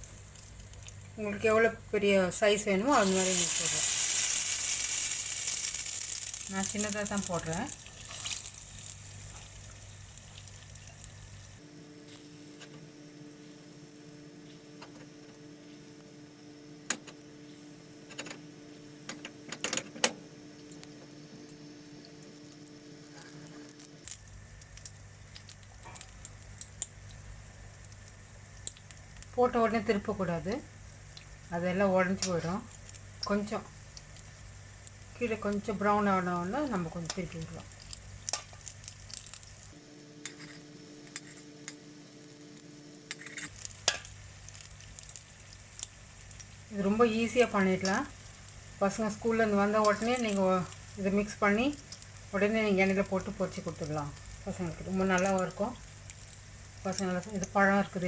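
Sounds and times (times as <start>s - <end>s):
hot oil crackling and popping: 0.0s - 58.0s
steady low hum: 0.0s - 58.0s.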